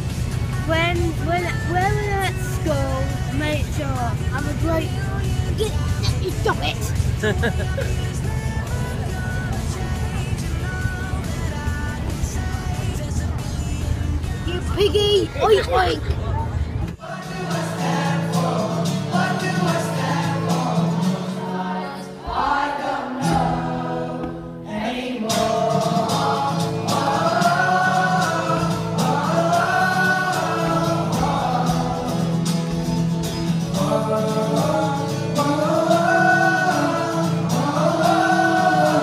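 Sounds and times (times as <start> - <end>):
group of voices singing: 1.4 - 16.1, 16.9 - 39.0.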